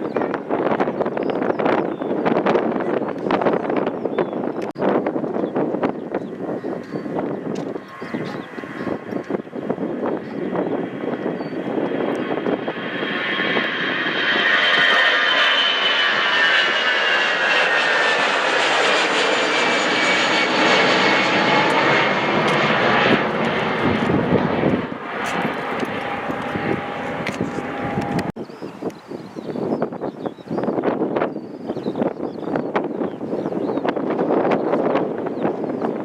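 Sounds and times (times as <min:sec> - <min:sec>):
jet airliner passing: 0:00.0 - 0:36.0.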